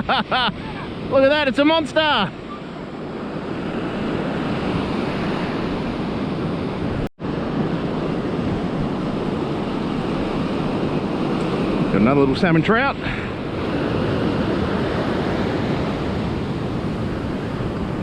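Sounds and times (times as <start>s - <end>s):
ocean surf washing on beach: 0.0s - 18.0s
wind buffeting microphone: 0.0s - 18.0s.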